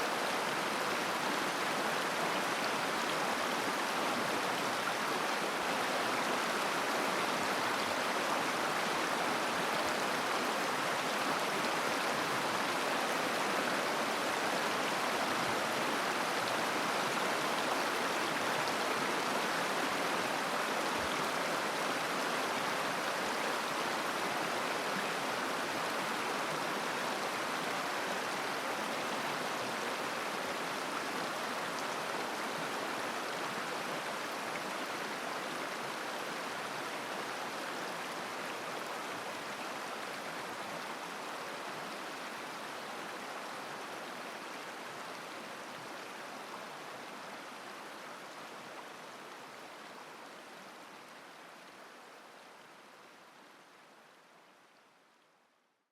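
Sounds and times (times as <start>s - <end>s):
river flowing over rocks: 0.0s - 54.8s.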